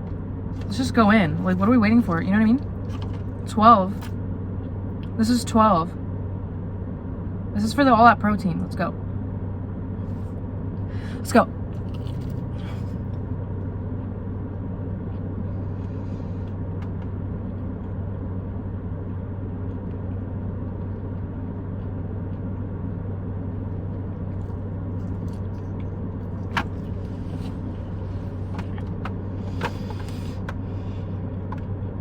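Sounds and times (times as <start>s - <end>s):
car cabin hum: 0.0s - 32.0s.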